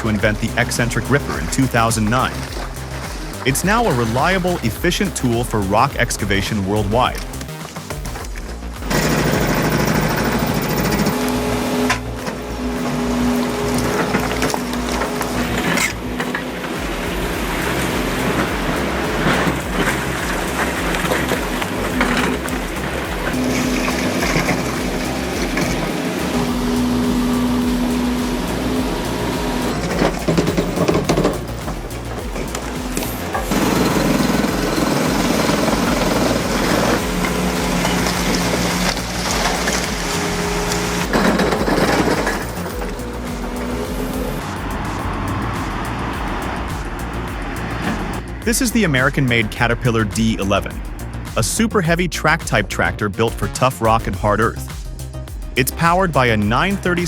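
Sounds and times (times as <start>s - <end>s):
heavy machine engine hum: 0.0s - 51.8s
rough dense noise: 0.0s - 57.0s.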